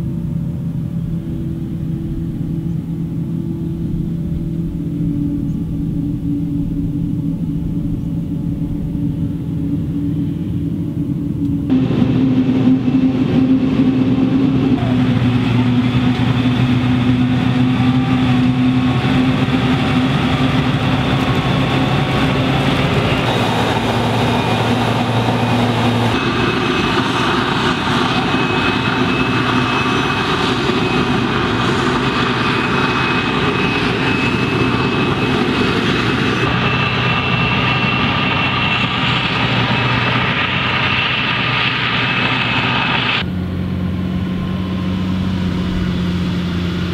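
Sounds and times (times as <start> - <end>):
harvester engine hum: 0.0 - 46.9
high steady whine: 0.0 - 46.9.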